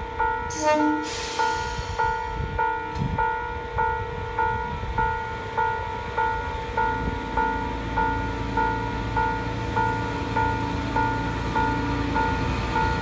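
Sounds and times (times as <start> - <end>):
diesel railcar engine drone: 0.0 - 13.0.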